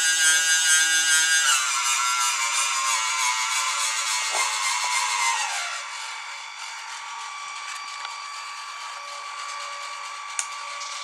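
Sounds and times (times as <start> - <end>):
electric water pump whining: 0.0 - 11.0.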